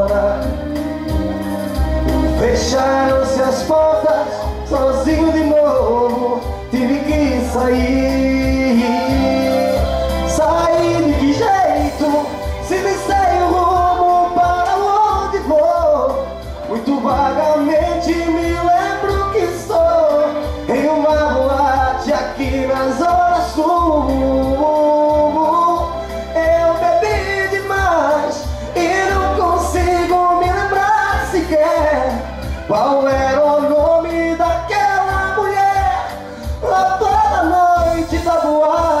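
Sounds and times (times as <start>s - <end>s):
man singing into a microphone: 0.0s - 1.2s, 2.0s - 39.0s
backing track with bass beat: 0.0s - 39.0s.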